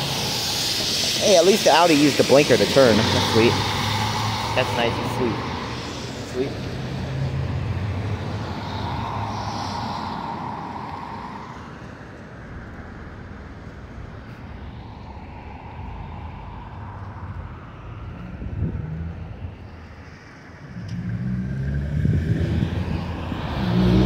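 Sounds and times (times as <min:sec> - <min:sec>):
car passing on wet street: 0:00.0 - 0:24.0
distant traffic: 0:00.0 - 0:24.0.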